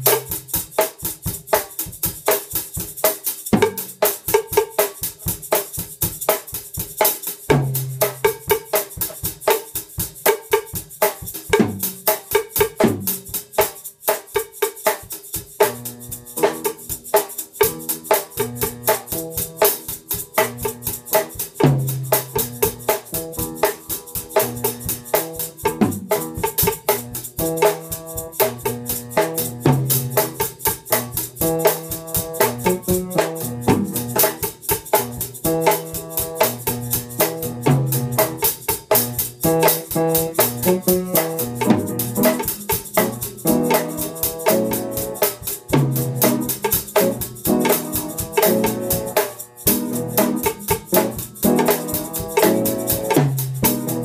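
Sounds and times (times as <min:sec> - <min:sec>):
backing track with bass and chords: 0:00.0 - 0:54.0
bossa nova drum kit groove: 0:00.0 - 0:54.0.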